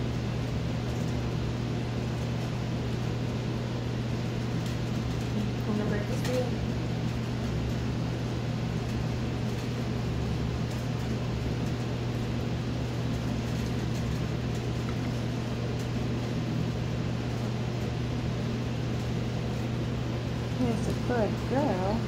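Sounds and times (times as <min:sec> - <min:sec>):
appliance humming: 0:00.0 - 0:22.0.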